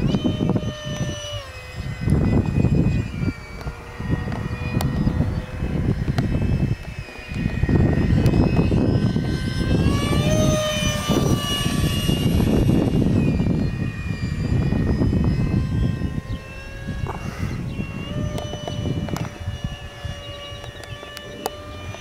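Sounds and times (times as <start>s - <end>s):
electric ducted fan whine: 0.0s - 22.0s
wind rumble on microphone: 0.0s - 22.0s.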